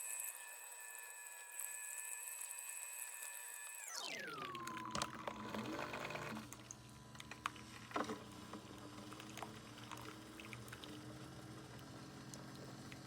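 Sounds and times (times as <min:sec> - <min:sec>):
coffee maker humming: 0:00.0 - 0:13.0.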